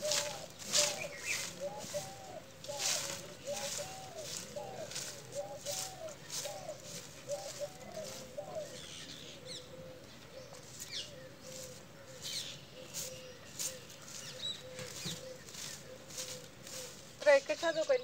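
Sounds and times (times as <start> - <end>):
grass broom sweeping dirt: 0.0 - 9.1, 10.6 - 18.0
birds calling: 0.0 - 18.0.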